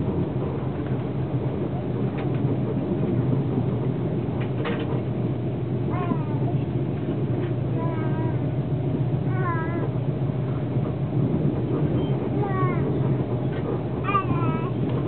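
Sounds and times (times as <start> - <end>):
passenger train rumble: 0.0 - 15.0.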